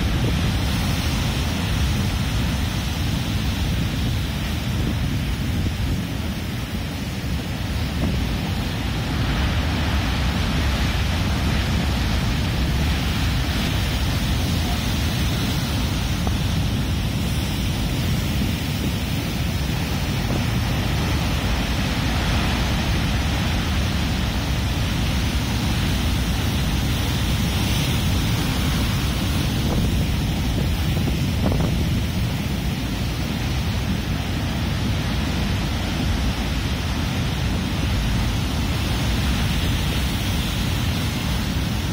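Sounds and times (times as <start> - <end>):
surf breaking over rocks: 0.0 - 41.9
wind buffeting microphone: 0.0 - 41.9.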